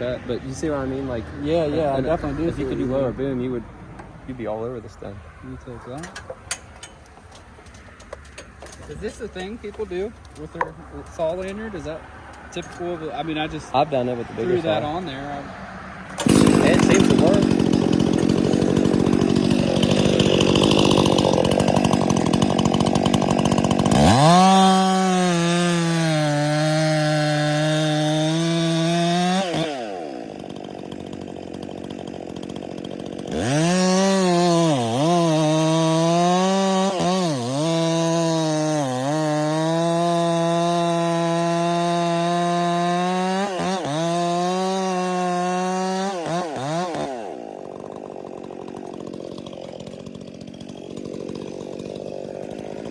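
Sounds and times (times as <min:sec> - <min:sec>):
chainsaw revving: 0:00.0 - 0:03.6, 0:05.6 - 0:52.9.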